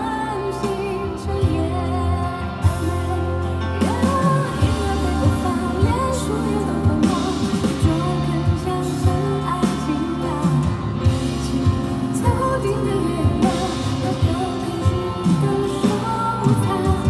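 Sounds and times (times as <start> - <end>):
bass notes: 0.0 - 17.0
pop band playing: 0.0 - 17.0
woman singing: 0.0 - 17.0.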